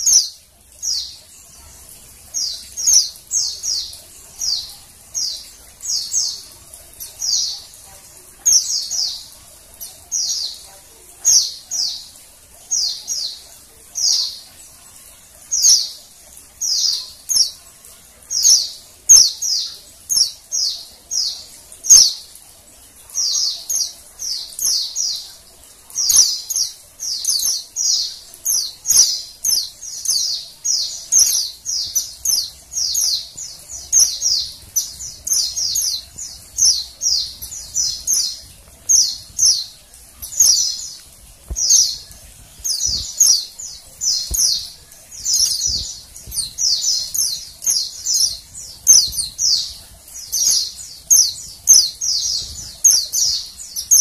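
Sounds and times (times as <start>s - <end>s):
bird chirping: 0.0s - 17.7s, 23.0s - 54.0s.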